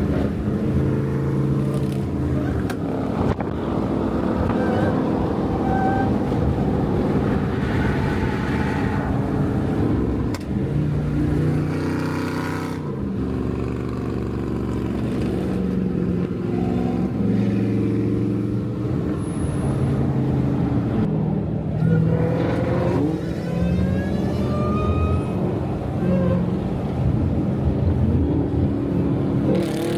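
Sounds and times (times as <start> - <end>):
car engine and exhaust droning: 0.0 - 29.9.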